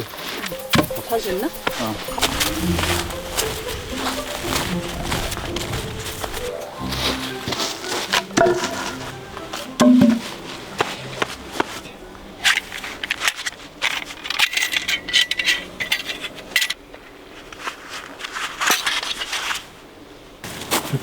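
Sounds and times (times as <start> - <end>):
wood and camp gear handled: 0.0 - 19.7.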